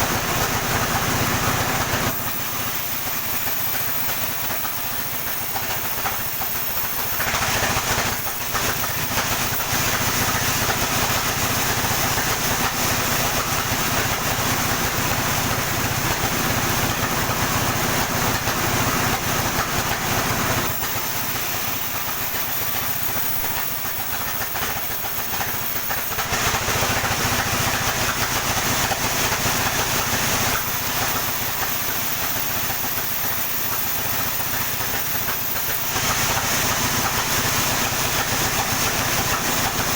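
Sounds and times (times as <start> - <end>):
saw cutting through log: 0.0 - 39.9
sawmill running: 0.0 - 39.9.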